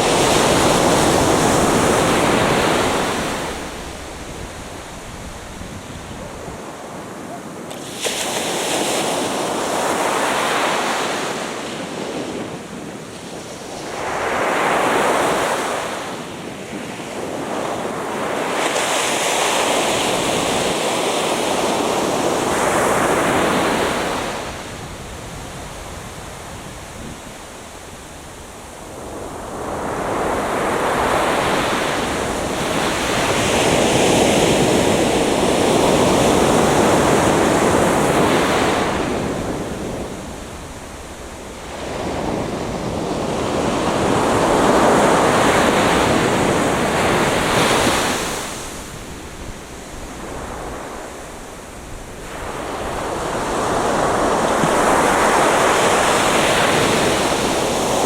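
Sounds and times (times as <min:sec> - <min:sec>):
surf breaking on beach: 0:00.0 - 0:27.9, 0:28.6 - 0:58.0.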